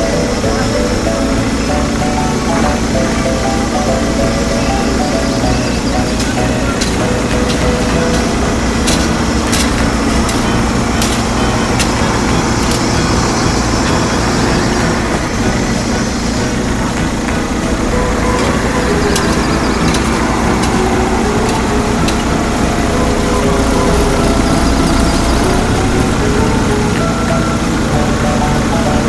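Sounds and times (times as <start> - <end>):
heavy engine running: 0.0 - 29.0.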